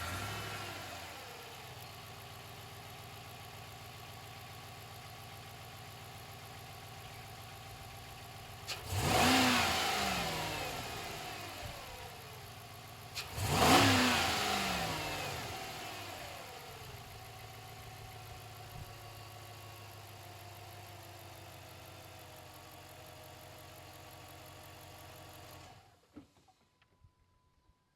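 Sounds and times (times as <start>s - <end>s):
car engine idling and revving: 0.0s - 26.4s.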